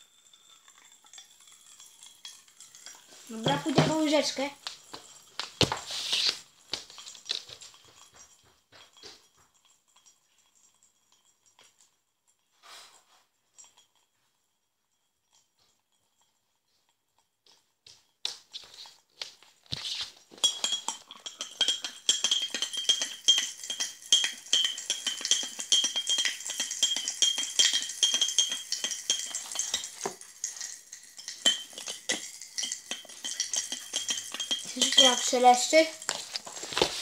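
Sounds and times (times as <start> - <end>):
teaspoon clinking in glass mug: 0.2 - 12.0, 18.3 - 37.0.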